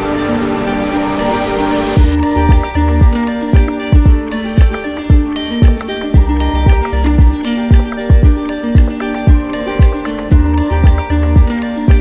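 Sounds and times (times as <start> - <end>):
plucked-string melody: 0.0 - 12.0
deep drum hits: 2.0 - 12.0.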